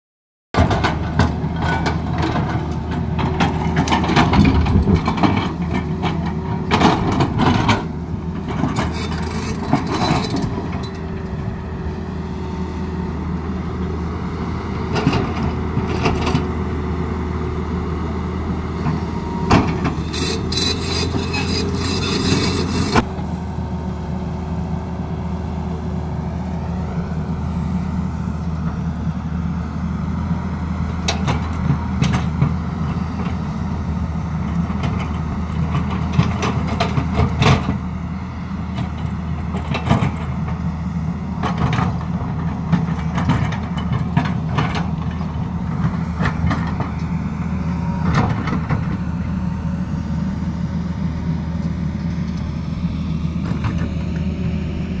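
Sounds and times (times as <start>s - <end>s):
diesel engine running under load: 0.6s - 55.0s.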